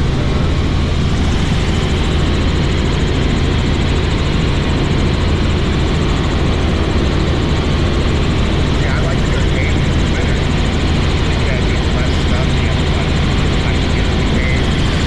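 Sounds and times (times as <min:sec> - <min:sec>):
helicopter engine and rotors: 0:00.0 - 0:15.0
low hum: 0:00.0 - 0:15.0.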